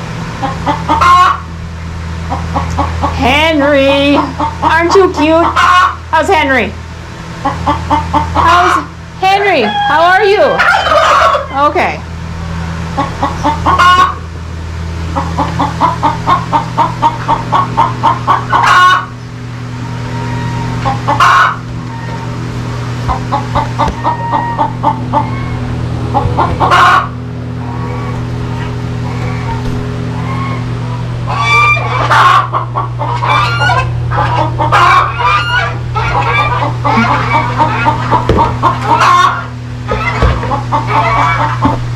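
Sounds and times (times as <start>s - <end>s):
steady low hum: 0.0s - 41.9s
hen clucking and squawking: 0.4s - 1.5s, 2.2s - 6.1s, 7.3s - 11.7s, 12.9s - 14.3s, 15.0s - 41.9s.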